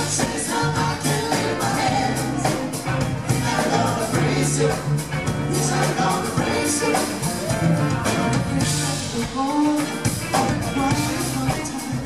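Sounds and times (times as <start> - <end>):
amplified singing: 0.0 - 12.0
bass guitar: 0.0 - 12.0
drum kit: 0.0 - 12.0
live rock band playing: 0.0 - 12.0.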